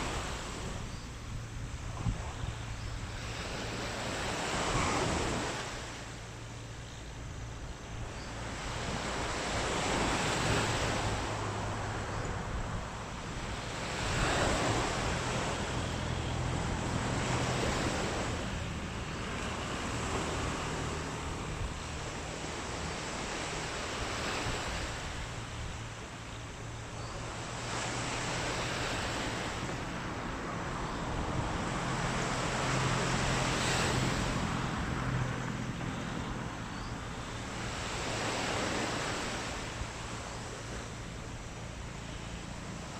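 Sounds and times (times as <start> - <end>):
sea waves washing onto beach: 0.0 - 42.9.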